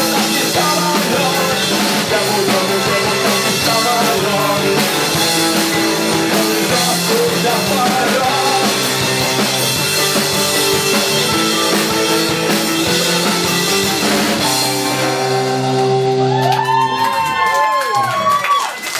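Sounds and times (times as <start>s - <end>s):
rock band playing live: 0.0s - 17.7s.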